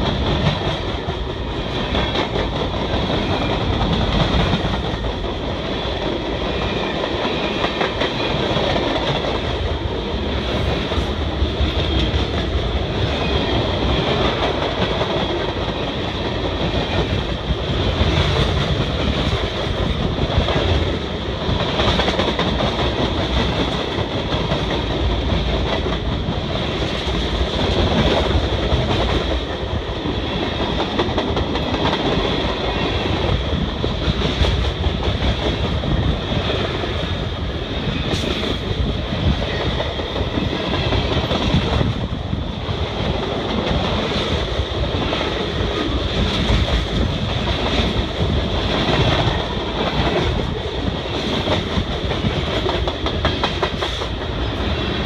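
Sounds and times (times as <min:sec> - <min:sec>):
freight train wheels rumbling: 0:00.0 - 0:55.0
wheels clickety-clack on track: 0:00.0 - 0:55.0.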